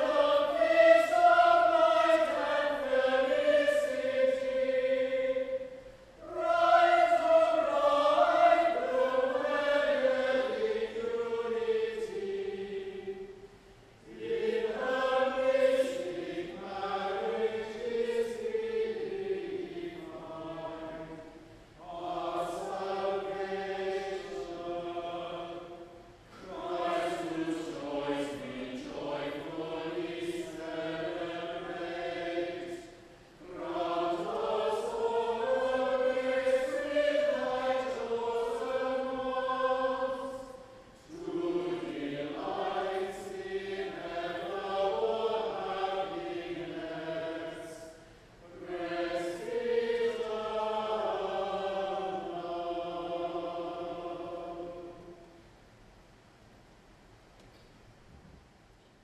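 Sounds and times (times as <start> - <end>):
unaccompanied plainchant singing: 0.0 - 55.4.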